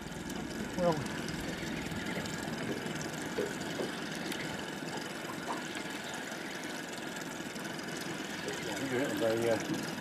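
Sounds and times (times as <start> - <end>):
boat engine idling: 0.0 - 10.0
water lapping against boat hull: 0.0 - 10.0.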